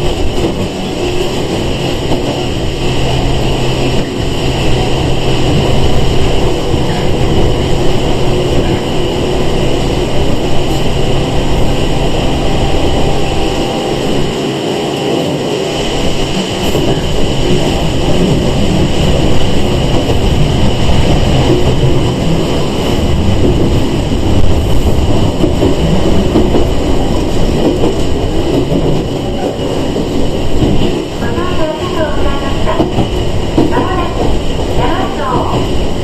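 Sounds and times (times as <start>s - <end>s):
train wheels rumbling and rattling: 0.0s - 36.0s.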